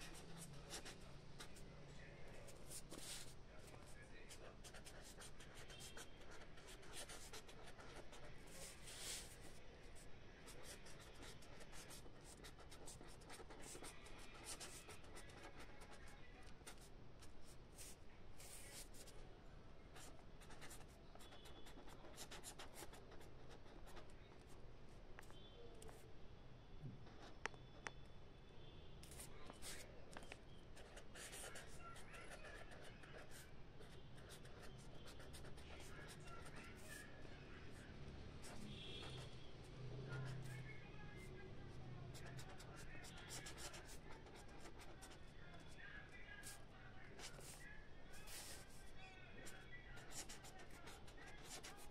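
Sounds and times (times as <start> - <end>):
pen scratching on paper: 0.0 - 1.6, 2.3 - 19.2, 20.0 - 24.2, 29.0 - 39.4, 42.1 - 45.8, 46.4 - 51.9.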